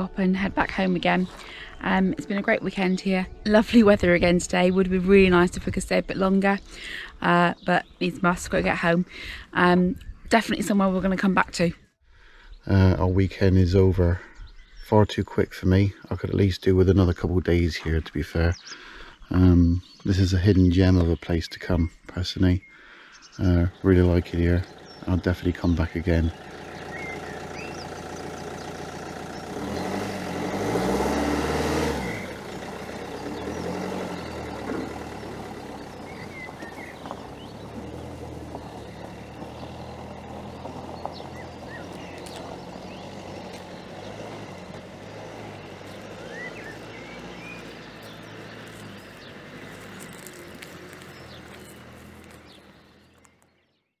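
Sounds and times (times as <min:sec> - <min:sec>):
motorhome engine pulling away: 0:00.0 - 0:11.6, 0:12.3 - 0:53.9.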